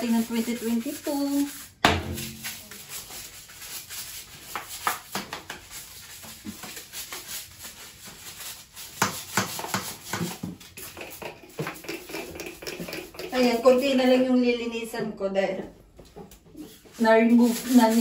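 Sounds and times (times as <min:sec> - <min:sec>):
scrub brush scrubbing: 0:00.0 - 0:14.2, 0:16.6 - 0:18.0.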